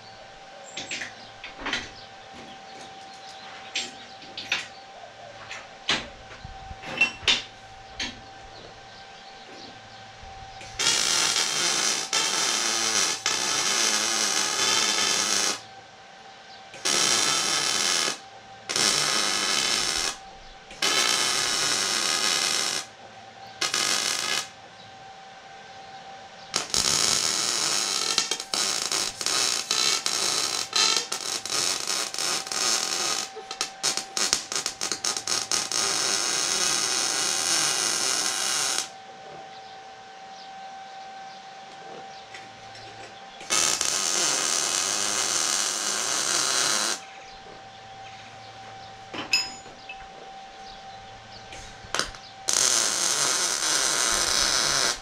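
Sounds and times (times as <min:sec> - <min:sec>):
arc welding crackling sizzle: 0:00.0 - 0:25.0, 0:25.8 - 0:39.4, 0:41.8 - 0:55.0.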